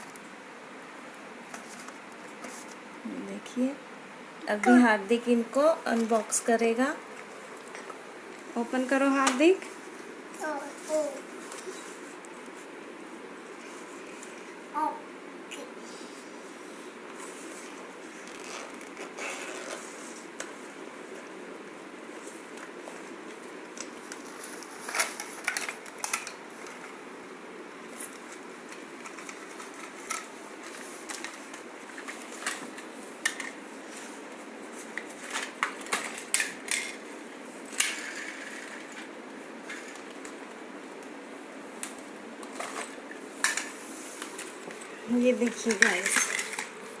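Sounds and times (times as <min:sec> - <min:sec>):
background hiss: 0:00.0 - 0:47.0.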